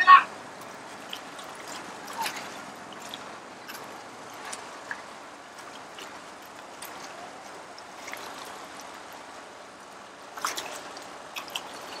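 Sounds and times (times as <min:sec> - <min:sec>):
water lapping against boat hull: 0:00.3 - 0:12.0.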